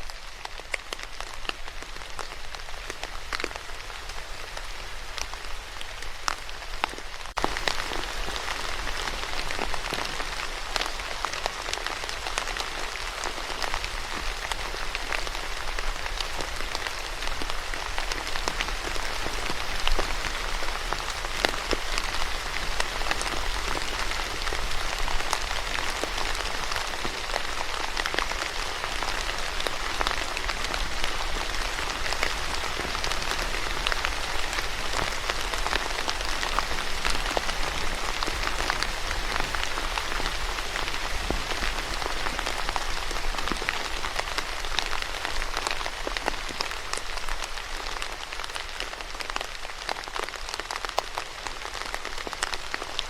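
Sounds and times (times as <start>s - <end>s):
rain on a hard surface: 0.0s - 53.0s.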